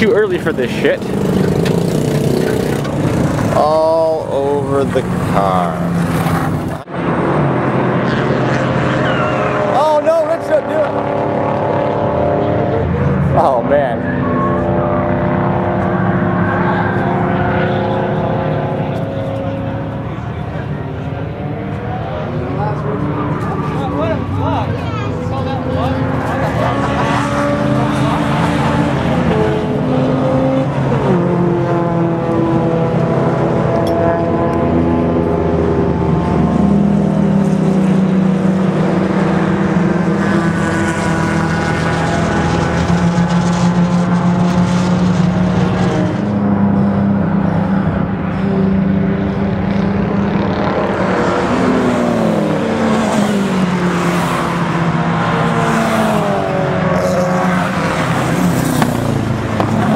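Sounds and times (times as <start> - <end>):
cars passing by: 0.0 - 59.9
race car engines: 0.0 - 59.9.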